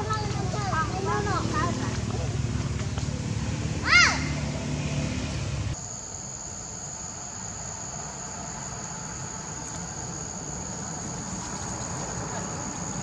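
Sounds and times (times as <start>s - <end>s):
insects droning high-pitched: 0.0s - 13.0s.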